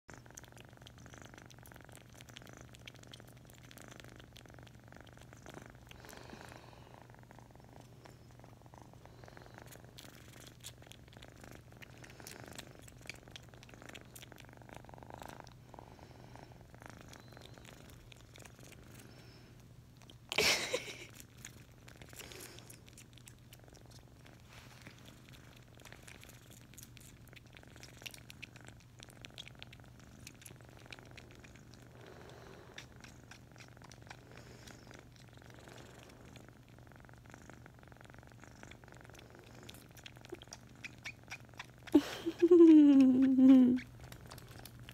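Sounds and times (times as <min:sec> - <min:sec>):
cat purring: 0:00.0 - 0:44.9.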